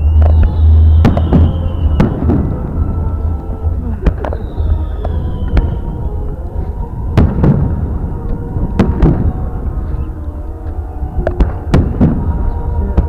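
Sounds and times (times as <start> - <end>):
fireworks bangs: 0.0 - 10.2, 11.2 - 13.0
steady low rumble: 0.0 - 13.0.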